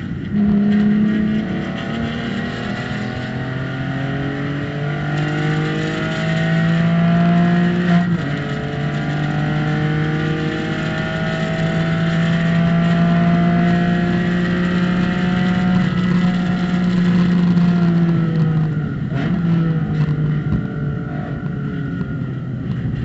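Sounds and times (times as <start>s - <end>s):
race car engine accelerating: 0.2s - 22.8s.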